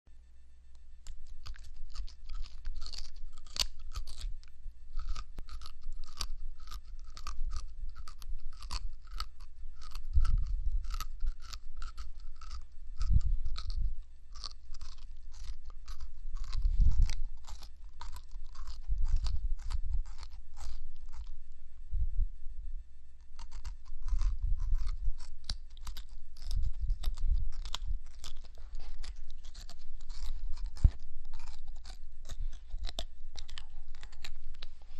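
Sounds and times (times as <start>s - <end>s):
grasshopper chewing leaf: 0.8s - 21.6s, 23.2s - 34.9s.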